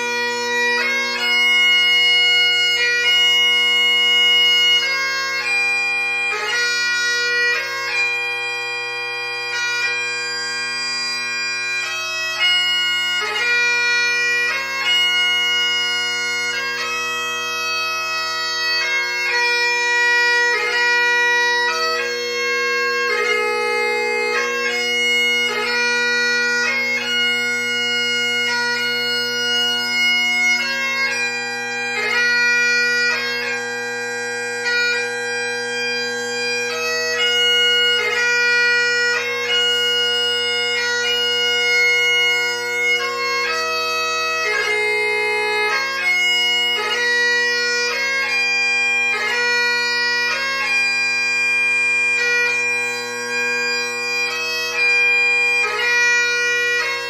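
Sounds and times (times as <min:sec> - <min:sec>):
bagpipe playing slow lament: 0:00.0 - 0:57.0.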